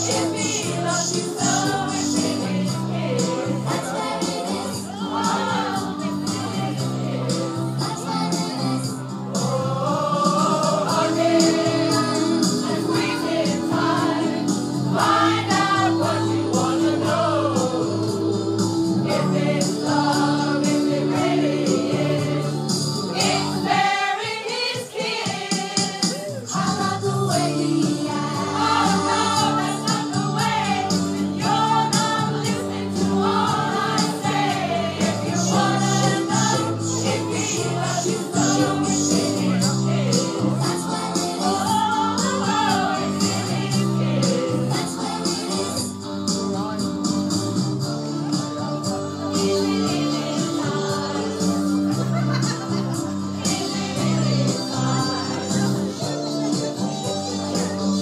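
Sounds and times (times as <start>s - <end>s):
choir singing: 0.0s - 46.0s, 48.5s - 56.2s.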